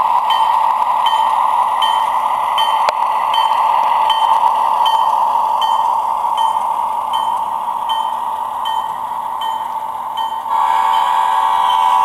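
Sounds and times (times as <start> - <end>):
model locomotive drone: 0.0 - 12.0.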